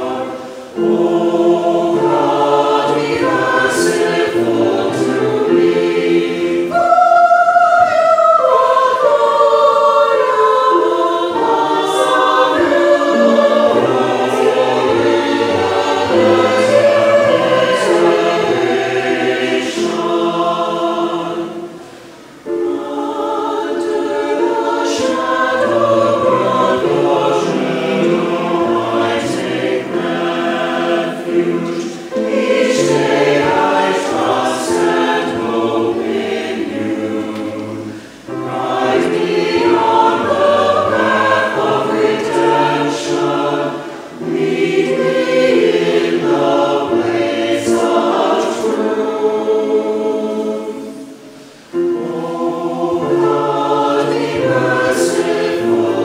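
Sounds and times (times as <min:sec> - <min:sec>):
church choir singing in harmony: 0:00.0 - 0:56.0.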